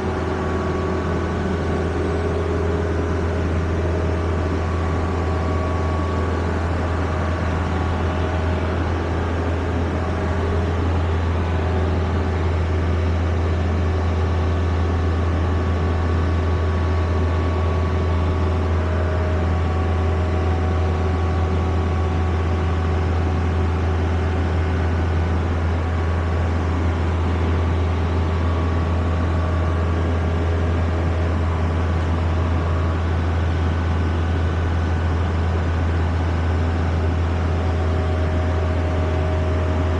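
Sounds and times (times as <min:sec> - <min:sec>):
low engine drone: 0:00.0 - 0:39.9.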